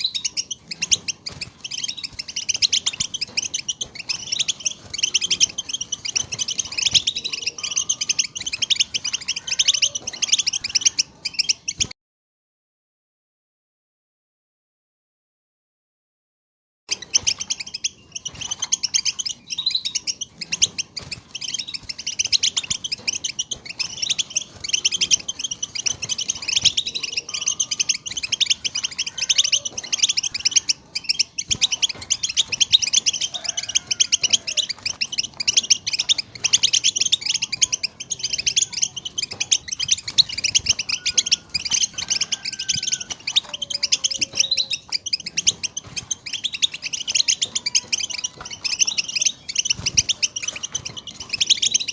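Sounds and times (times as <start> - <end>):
goldfinches twittering: 0.0 - 11.9, 16.9 - 51.9.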